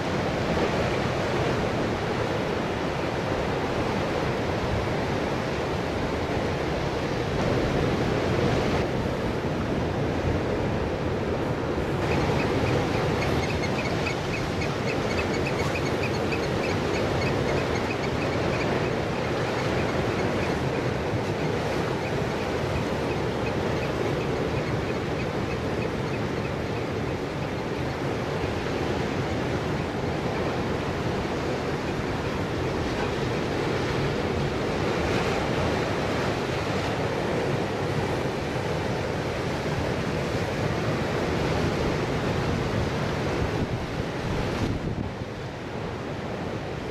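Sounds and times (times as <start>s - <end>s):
surf washing against rocks: 0.0s - 46.9s
wind on microphone: 0.0s - 46.9s.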